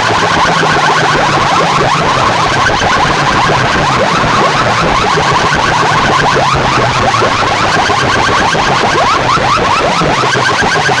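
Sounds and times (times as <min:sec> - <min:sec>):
rising electronic chirps: 0:00.0 - 0:11.0.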